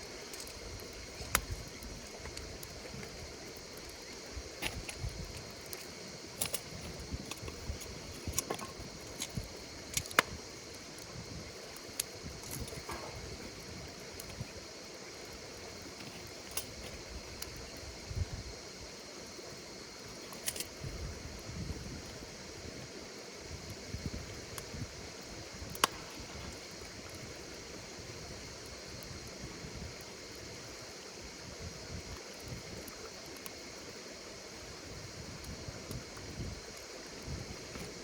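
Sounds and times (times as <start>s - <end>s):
insects chirring: 0.0s - 38.0s
wood fire crackling and popping: 0.0s - 38.0s.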